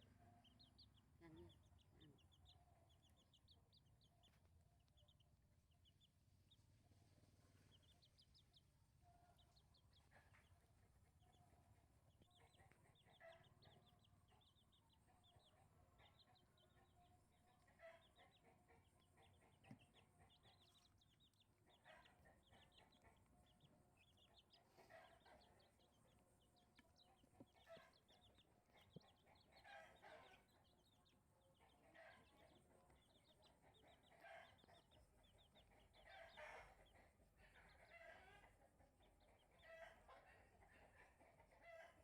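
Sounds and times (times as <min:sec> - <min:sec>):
chicks peeping: 0:00.0 - 0:42.0
chicken clucks: 0:05.8 - 0:42.0.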